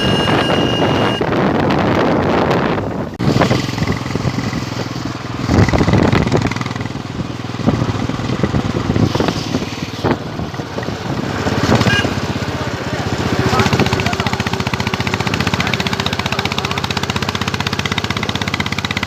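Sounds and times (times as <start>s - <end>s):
motorcycle engine running: 0.0s - 1.5s, 3.2s - 19.0s.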